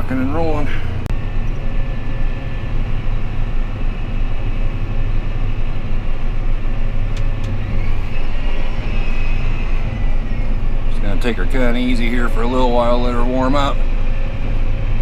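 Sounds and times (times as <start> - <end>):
faint rising whine: 0.0 - 15.0
vehicle engine running: 0.0 - 15.0.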